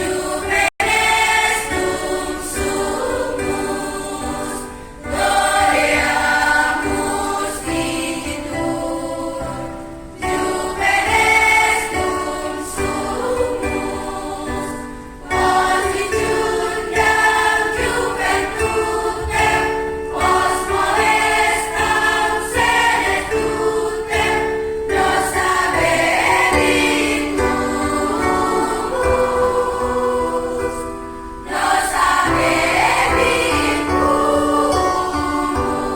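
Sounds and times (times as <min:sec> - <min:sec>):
choir singing in harmony: 0:00.0 - 0:35.9.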